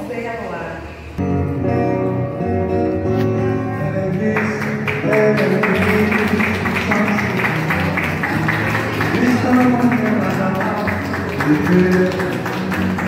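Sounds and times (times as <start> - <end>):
acoustic guitar strumming: 1.2 - 13.0.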